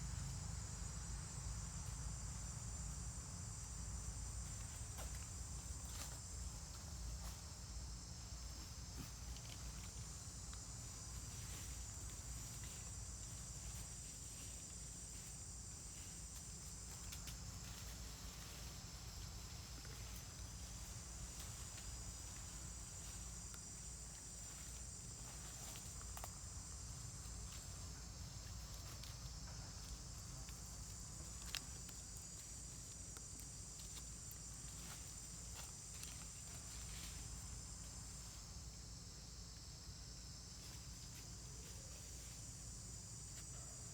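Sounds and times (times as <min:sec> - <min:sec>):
insect chorus: 0:00.0 - 0:43.9.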